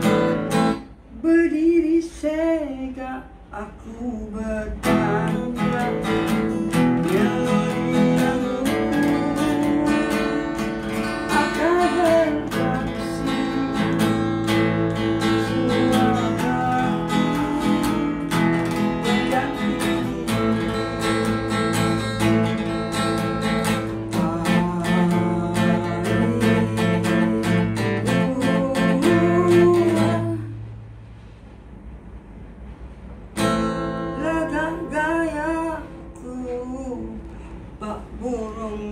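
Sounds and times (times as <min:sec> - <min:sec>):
acoustic guitar strumming chords: 0:00.0 - 0:01.7, 0:03.6 - 0:30.8, 0:33.1 - 0:38.8
man singing: 0:01.1 - 0:21.4, 0:23.6 - 0:30.6, 0:34.1 - 0:38.9.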